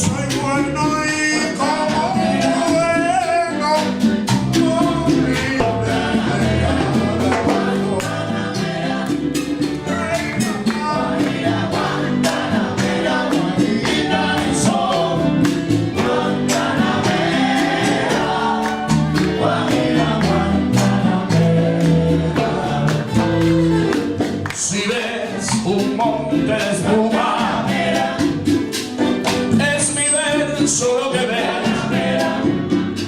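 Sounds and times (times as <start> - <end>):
percussion beat: 0.0 - 33.0
song with singing voices: 0.0 - 33.0.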